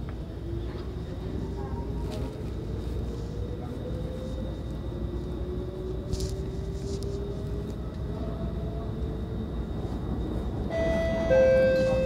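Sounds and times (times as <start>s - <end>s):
faint traction motor whine: 2.1s - 12.0s.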